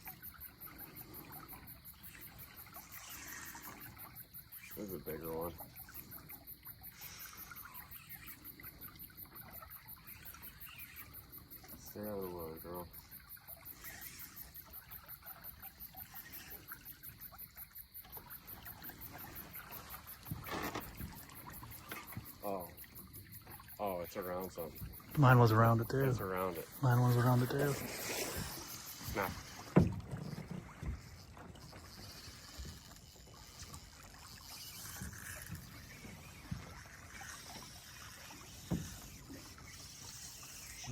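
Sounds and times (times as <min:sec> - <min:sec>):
high insect trill: 0:00.0 - 0:40.9
small splashes and knocks: 0:00.0 - 0:40.9
water lapping against boat hull: 0:00.0 - 0:40.9.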